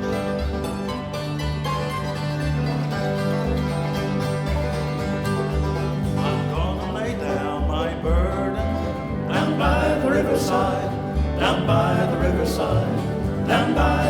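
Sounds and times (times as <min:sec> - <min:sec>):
banjo picking: 0:00.0 - 0:14.0
bass notes: 0:00.0 - 0:14.0
guitar picking: 0:00.0 - 0:14.0.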